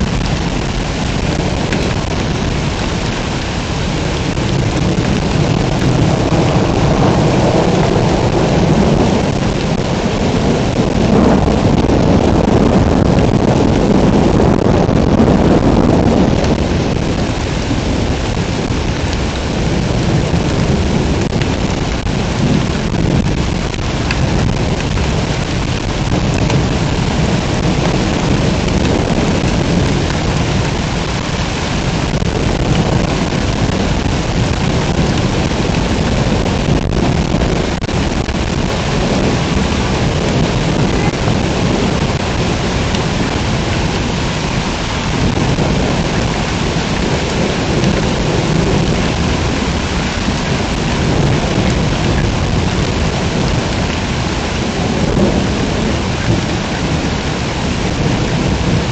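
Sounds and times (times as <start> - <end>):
heavy rain pouring: 0.0 - 58.9
low rumble: 0.0 - 58.9.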